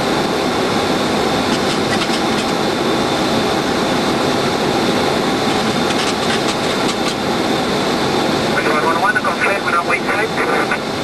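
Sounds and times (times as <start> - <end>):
airplane cabin engine rush: 0.0 - 11.0.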